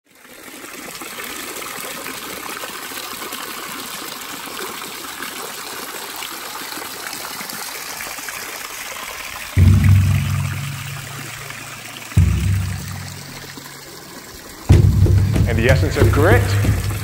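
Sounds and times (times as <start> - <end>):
waterfall splashing into pool: 0.1 - 17.0.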